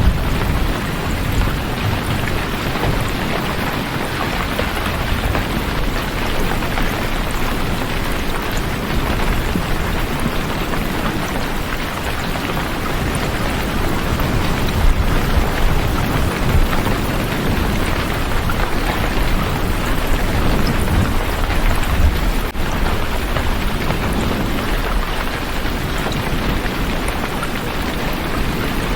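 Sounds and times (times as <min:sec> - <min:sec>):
heavy rain hissing: 0:00.0 - 0:28.9.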